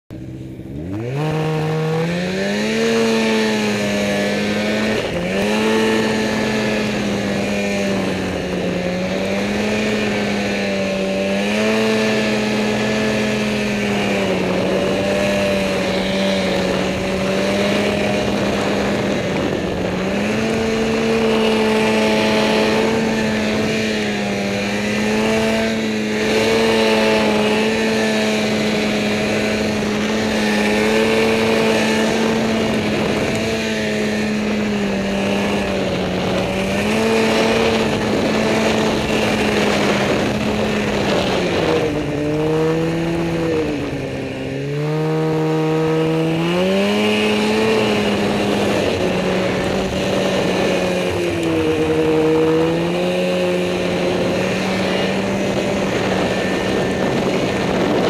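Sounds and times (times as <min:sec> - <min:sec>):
snowmobile engine revving: 0:00.1 - 0:58.0.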